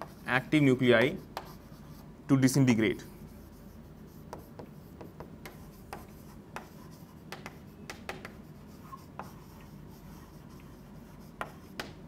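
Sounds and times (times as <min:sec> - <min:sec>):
chalk tapping and scratching: 0:00.0 - 0:02.1, 0:03.1 - 0:12.0.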